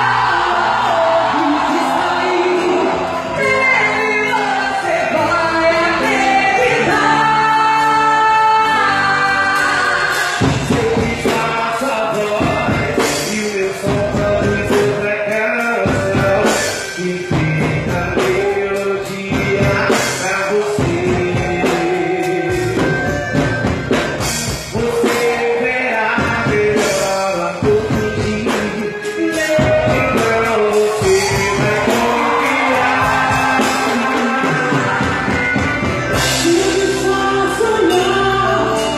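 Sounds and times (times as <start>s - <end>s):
people singing: 0.0s - 23.7s, 24.6s - 38.9s
band playing dance music: 0.0s - 38.9s.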